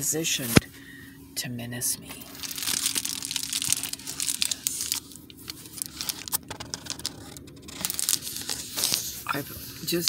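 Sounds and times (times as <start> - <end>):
faint hum of small fans: 0.0 - 10.0.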